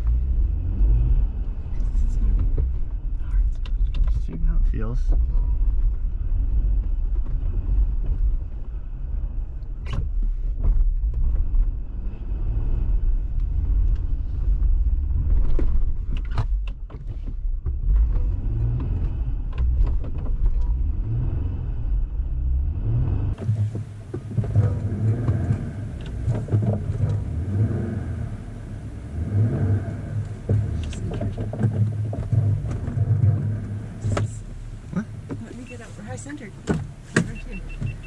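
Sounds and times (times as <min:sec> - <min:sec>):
vehicle engine and tyres rumbling: 0:00.0 - 0:38.0.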